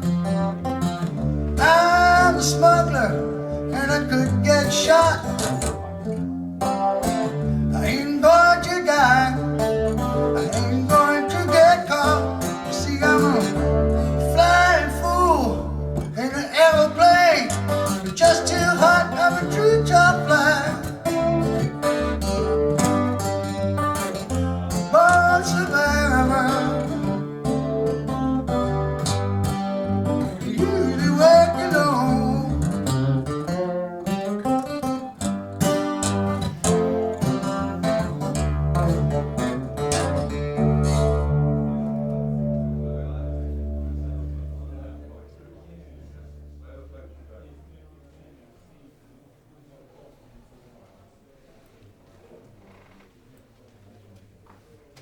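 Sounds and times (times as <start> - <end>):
country-rock song over loudspeakers: 0.0 - 45.0.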